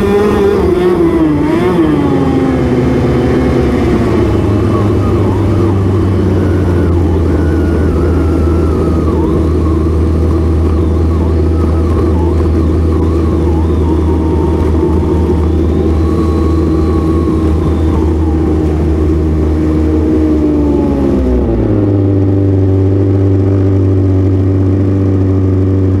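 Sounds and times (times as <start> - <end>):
snowmobile engine running: 0.0 - 26.0.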